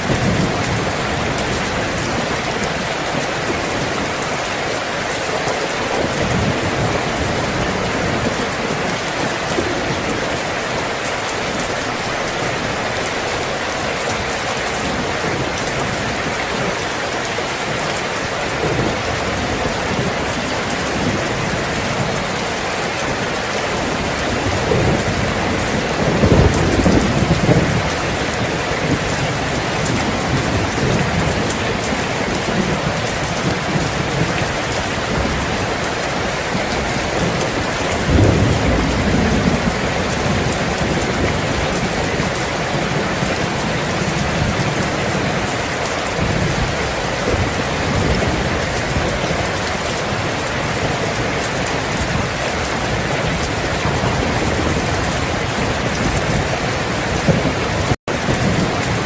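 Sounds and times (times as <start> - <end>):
thunder rumbling: 0.0 - 4.8, 5.4 - 59.0
rain falling: 0.0 - 59.0.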